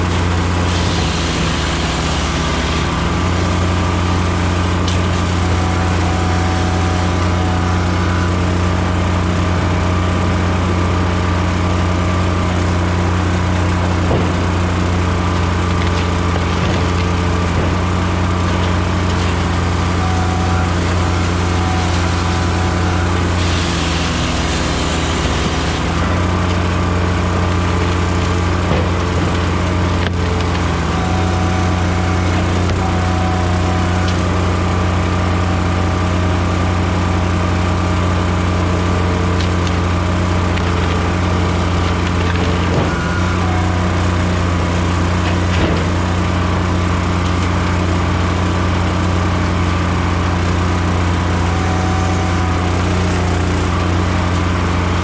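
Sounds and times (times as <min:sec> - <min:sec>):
firewood processor engine drone: 0:00.0 - 0:55.0
saw rasping through log: 0:00.0 - 0:55.0.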